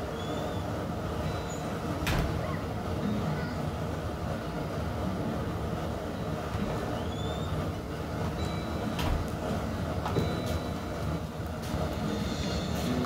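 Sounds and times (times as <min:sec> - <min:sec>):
gas burner flame rushing: 0:00.0 - 0:13.0.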